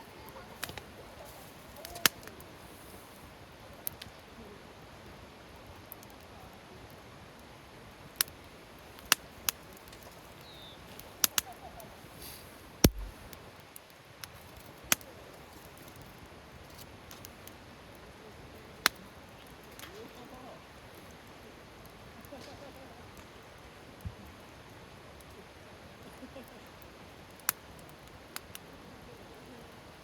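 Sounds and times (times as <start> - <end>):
campfire crackling: 0.0 - 30.0
fire hissing softly: 0.0 - 30.0.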